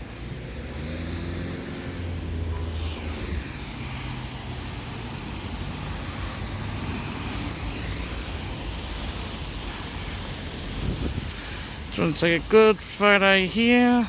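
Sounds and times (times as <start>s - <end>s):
vehicle passing close by: 0.0s - 11.3s
traffic and tyre noise: 0.0s - 14.0s.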